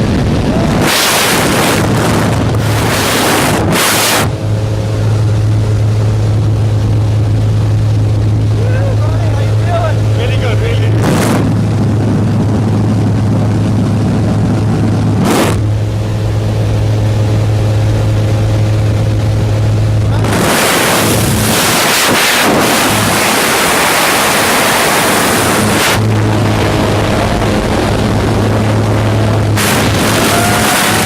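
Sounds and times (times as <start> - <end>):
loud rush of wind: 0.0 - 31.0
plane engine droning: 0.0 - 31.0.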